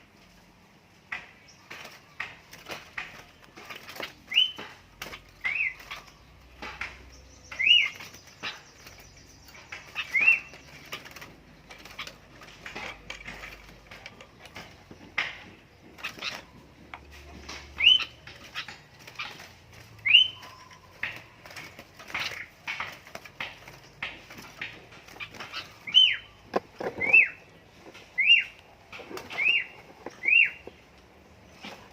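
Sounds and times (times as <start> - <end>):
birds fluttering wings: 1.1 - 31.9
bird chirps: 1.4 - 31.9.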